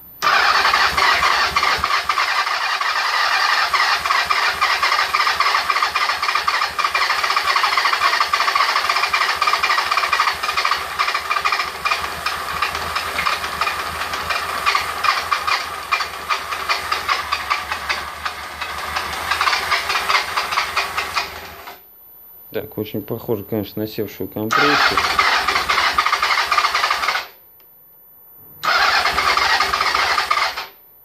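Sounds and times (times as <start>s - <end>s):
electric starter cranking engine: 0.2s - 21.8s, 24.5s - 27.4s, 28.6s - 30.8s.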